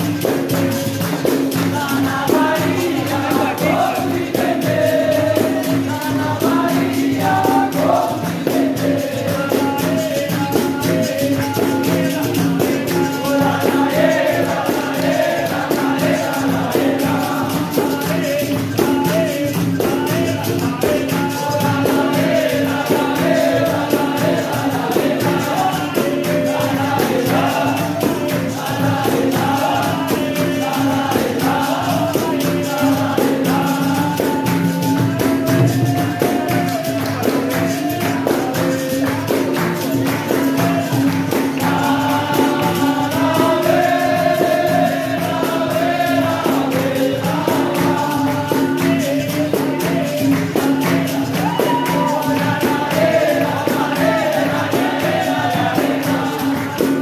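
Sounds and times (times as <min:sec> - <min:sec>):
atabaque drum: 0:00.0 - 0:57.0
group singing call-and-response: 0:00.0 - 0:57.0
pandeiro: 0:00.0 - 0:57.0.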